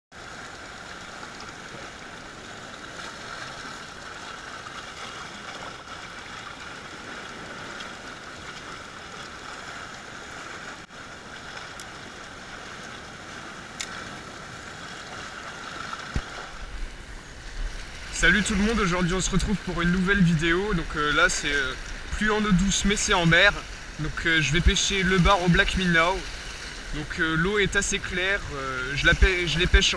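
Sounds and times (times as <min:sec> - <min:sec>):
sea surf on rocky shore: 0:00.2 - 0:29.9.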